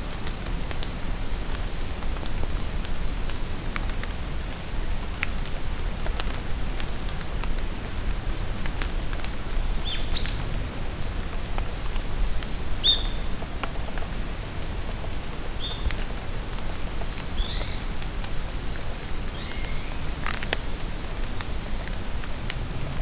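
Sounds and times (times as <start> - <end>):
rain in a forest: 0.0 - 23.0.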